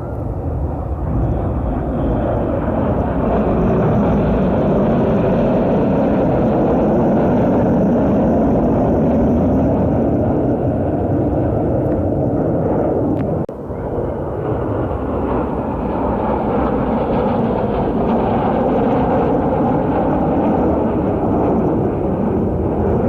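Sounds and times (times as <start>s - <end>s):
jets flying past: 0.0s - 23.0s.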